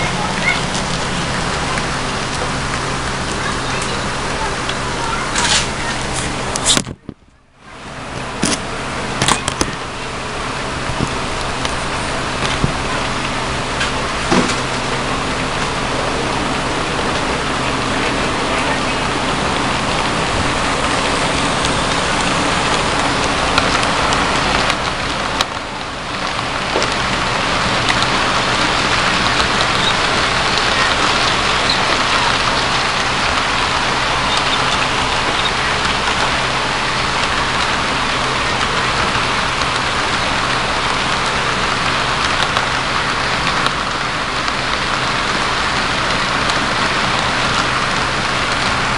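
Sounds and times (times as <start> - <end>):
motor and transformer hum: 0.0 - 48.9
model train wheels over rail joints: 8.0 - 48.9.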